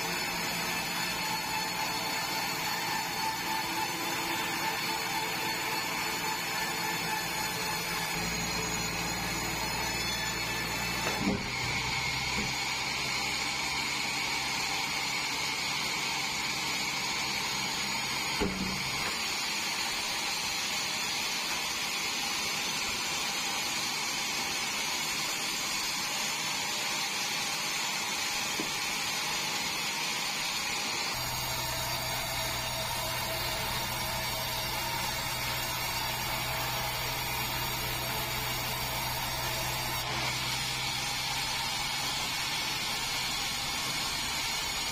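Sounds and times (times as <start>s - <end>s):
band saw cutting log: 0.0s - 44.9s.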